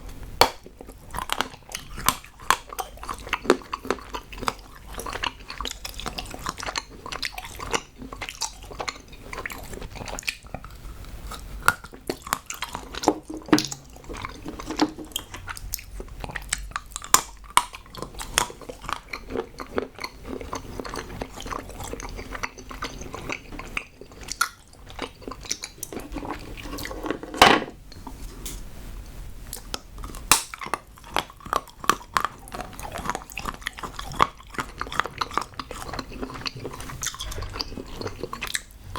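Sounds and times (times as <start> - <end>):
chocolate snapping and crunching: 0.1 - 10.7, 11.3 - 27.1, 29.6 - 38.7
chewing and biting: 0.4 - 27.2, 29.5 - 38.9.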